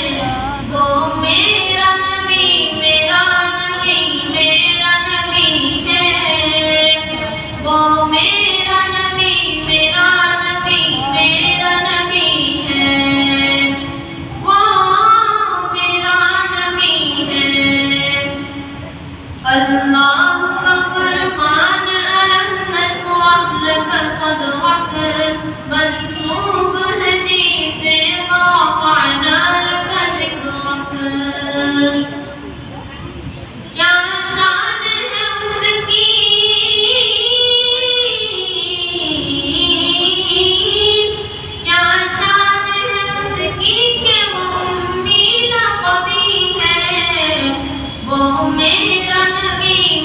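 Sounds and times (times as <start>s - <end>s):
boy singing unaccompanied: 0.0s - 32.4s, 33.7s - 50.0s.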